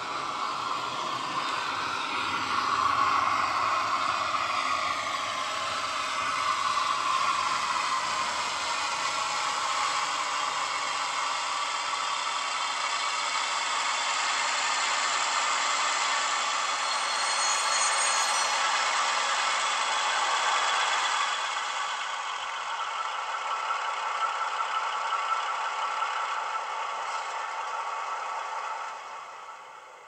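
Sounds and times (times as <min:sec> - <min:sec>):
model train whir and clatter: 0:00.0 - 0:30.0.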